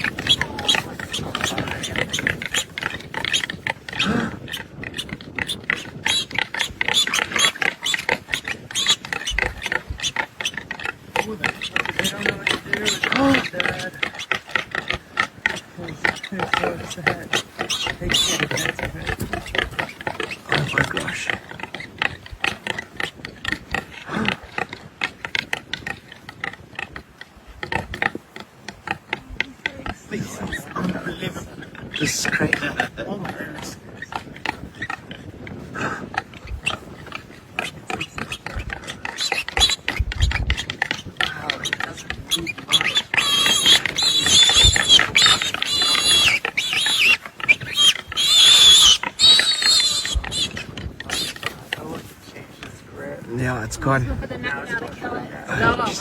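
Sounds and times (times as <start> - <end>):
animal squealing: 0.0 - 24.6, 29.1 - 35.1, 35.8 - 52.2.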